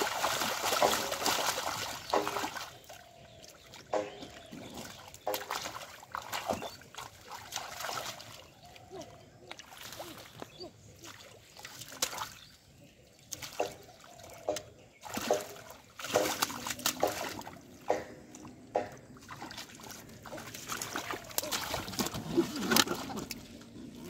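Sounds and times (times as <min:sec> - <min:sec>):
hands splashing in muddy water: 0:00.0 - 0:24.0.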